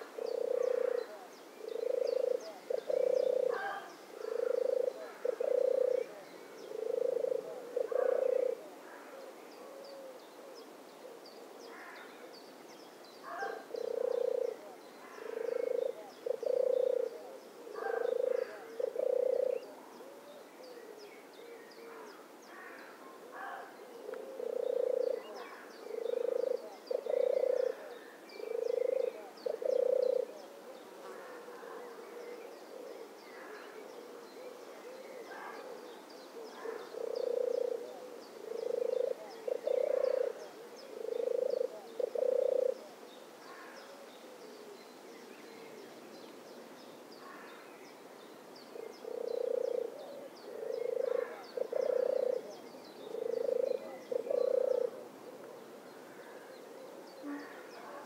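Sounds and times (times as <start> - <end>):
dove purring song: 0.0 - 58.0.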